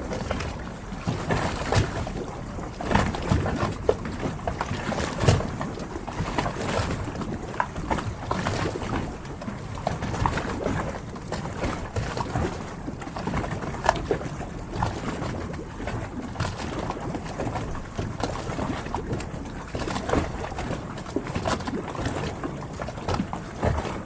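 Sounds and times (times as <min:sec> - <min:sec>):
water lapping against boat hulls: 0:00.0 - 0:24.0.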